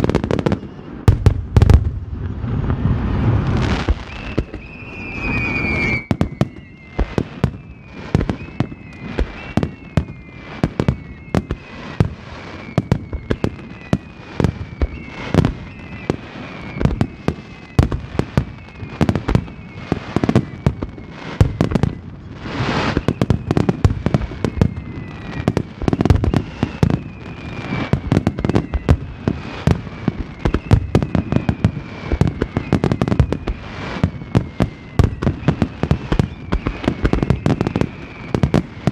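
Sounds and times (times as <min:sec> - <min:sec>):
fireworks bursting: 0:00.0 - 0:38.9
whistling fireworks: 0:00.0 - 0:38.9.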